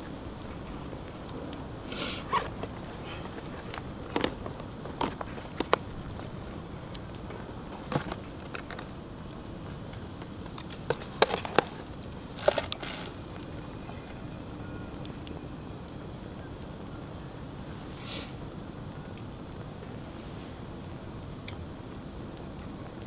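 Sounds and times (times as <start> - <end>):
fire hissing: 0.0 - 23.0
wood fire crackling and popping: 0.0 - 23.0.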